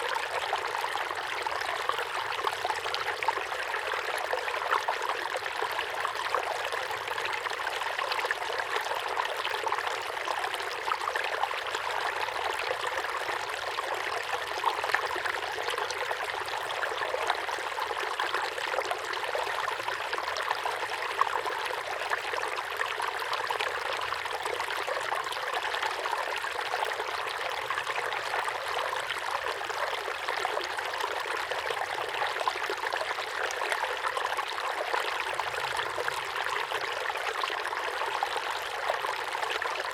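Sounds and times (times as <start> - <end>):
waterfall pouring into pond: 0.0 - 39.9.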